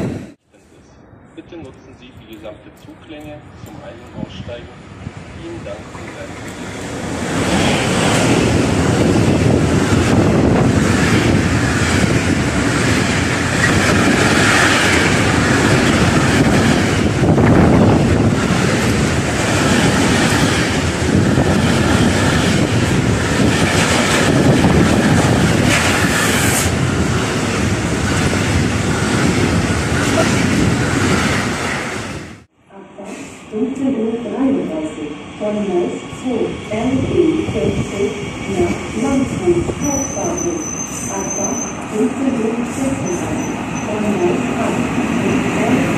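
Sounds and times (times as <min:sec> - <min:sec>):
freight train passing: 0:00.0 - 0:45.9.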